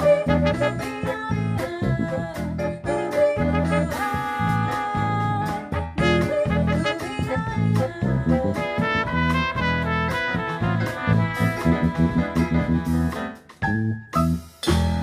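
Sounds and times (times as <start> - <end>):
jazz ensemble playing: 0.0 - 15.0.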